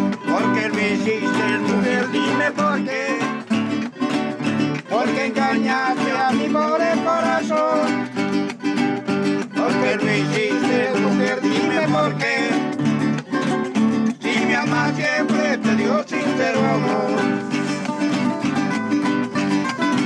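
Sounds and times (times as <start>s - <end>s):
acoustic string band playing: 0.0s - 20.0s.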